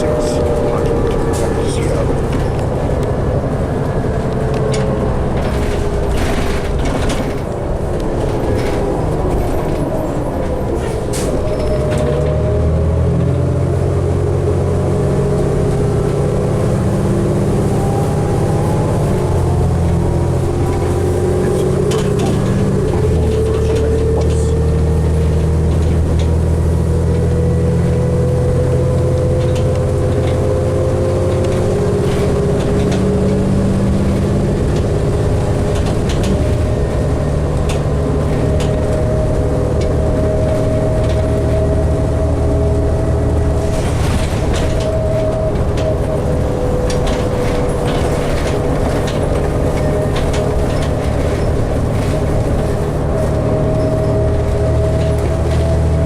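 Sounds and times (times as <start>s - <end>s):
bus engine rumble: 0.0s - 56.0s
drivetrain whine: 0.0s - 56.0s.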